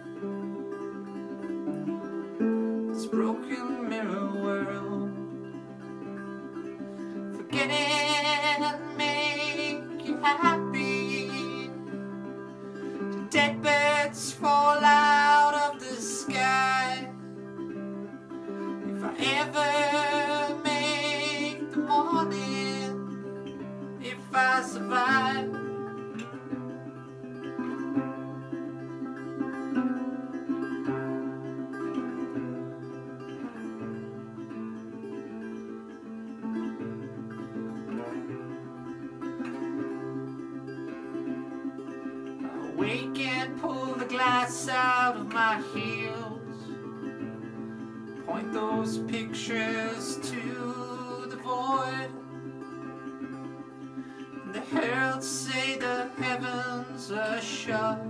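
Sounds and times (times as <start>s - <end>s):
picked guitar accompaniment: 0.0s - 58.0s
sliding resonator guitar melody: 0.0s - 58.0s.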